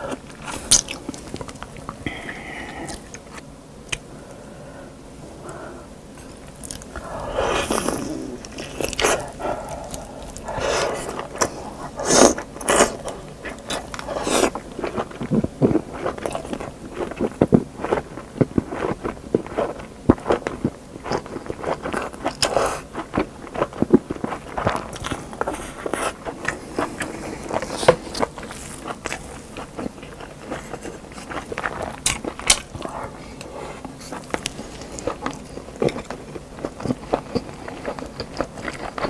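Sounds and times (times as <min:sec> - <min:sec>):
chewing with wet mouth sounds: 0:06.5 - 0:39.0.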